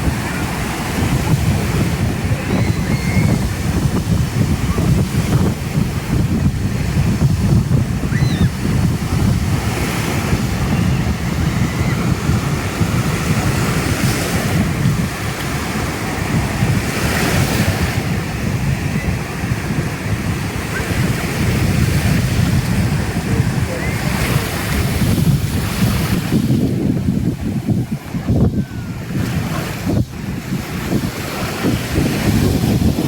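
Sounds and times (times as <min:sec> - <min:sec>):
surf washing onto beach: 0:00.0 - 0:33.0
wind buffeting microphone: 0:00.0 - 0:33.0.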